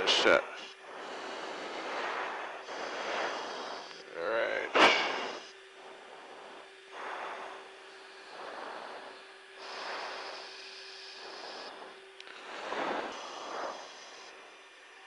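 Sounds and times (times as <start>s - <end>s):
faint steady hum: 0.0s - 15.0s
radio hiss: 0.0s - 15.0s
person breathing into microphone: 0.7s - 14.7s.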